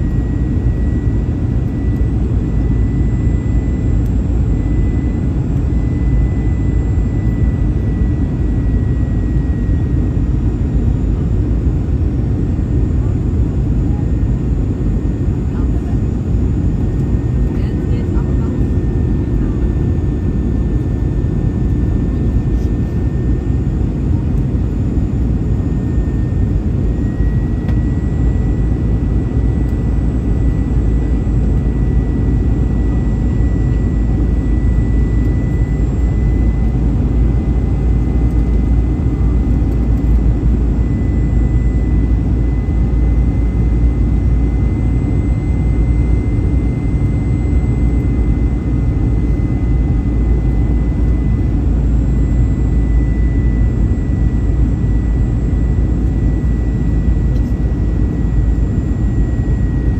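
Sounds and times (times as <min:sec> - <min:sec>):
faint high whine: 0:00.0 - 0:59.9
jet engine cabin rumble: 0:00.0 - 0:59.9.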